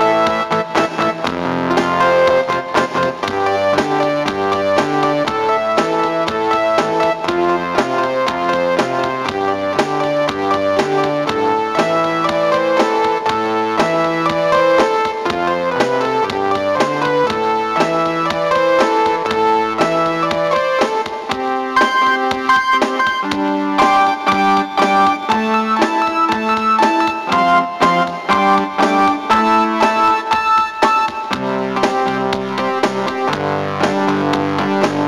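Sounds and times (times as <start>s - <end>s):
electric piano and synthesizer tune: 0.0s - 35.0s.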